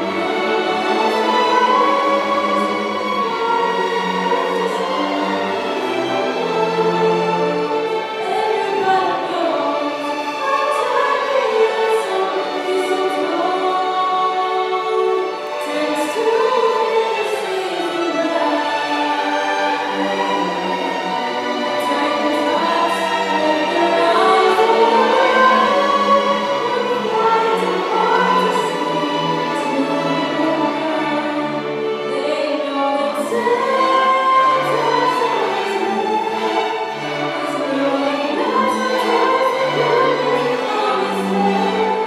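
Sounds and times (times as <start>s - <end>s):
string orchestra playing ballad: 0.0s - 42.0s.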